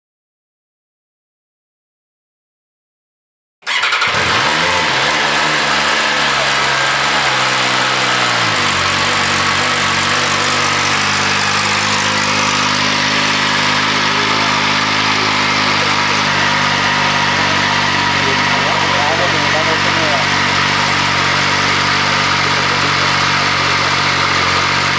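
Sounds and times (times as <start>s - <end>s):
motorcycle engine idling: 3.7s - 24.9s.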